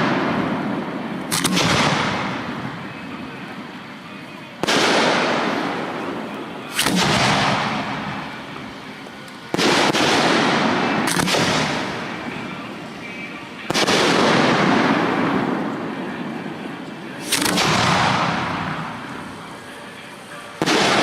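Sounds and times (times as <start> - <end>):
fireworks booming with echo: 0.0 - 21.0.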